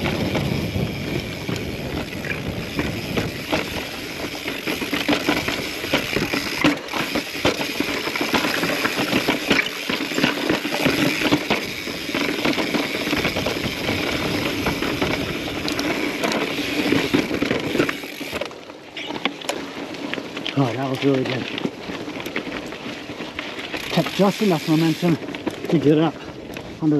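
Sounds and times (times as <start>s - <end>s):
bike rattling knocks and clicks: 0.0s - 26.9s
bike tyres crunching on rock: 0.0s - 26.9s.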